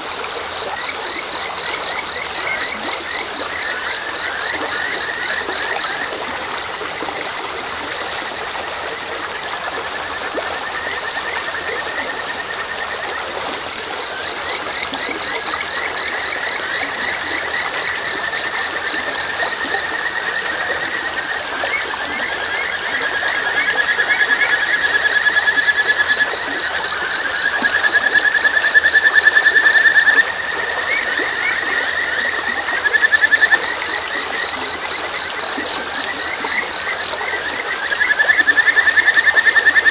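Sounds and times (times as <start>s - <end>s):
crickets chirping: 0.0s - 39.9s
frogs trilling: 0.0s - 39.9s.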